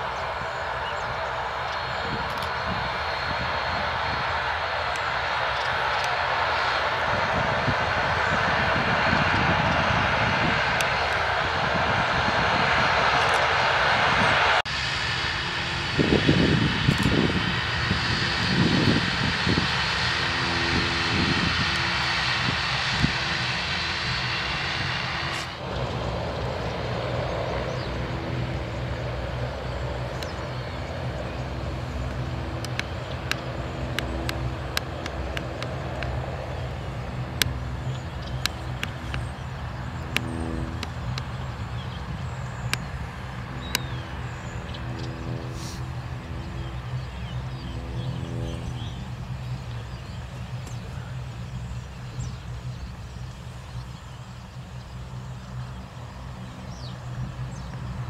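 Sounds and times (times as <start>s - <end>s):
turboprop airliner droning: 0.0s - 58.0s.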